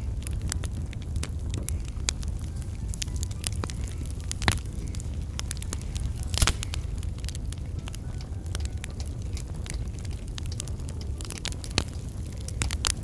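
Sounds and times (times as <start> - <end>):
fire crackling and popping: 0.0 - 13.0
low rumble: 0.0 - 13.0.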